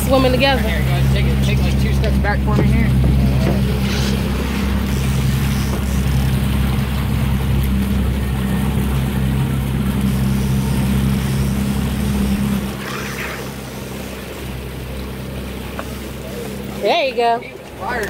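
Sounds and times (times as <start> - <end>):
boat wake wash: 0.0 - 18.0
outboard motor running: 0.0 - 18.0.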